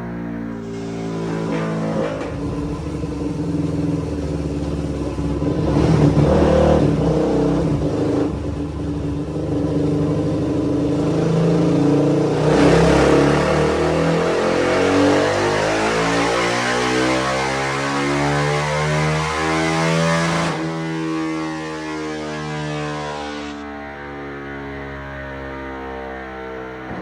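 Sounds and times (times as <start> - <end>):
motorcycle engine revving hard: 0.0 - 27.0.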